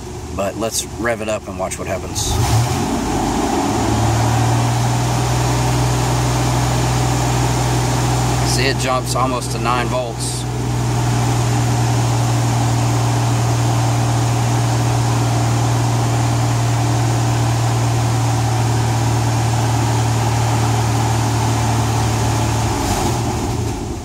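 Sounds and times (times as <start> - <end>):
car engine at raised revs: 0.0 - 24.0.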